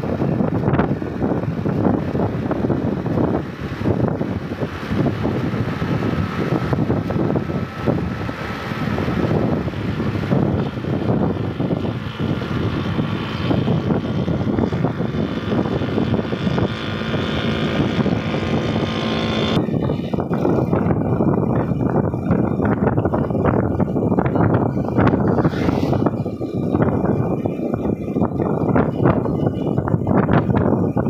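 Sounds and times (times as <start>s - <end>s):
motorcycle engine droning: 0.0s - 31.0s
wind buffeting microphone: 0.0s - 31.0s.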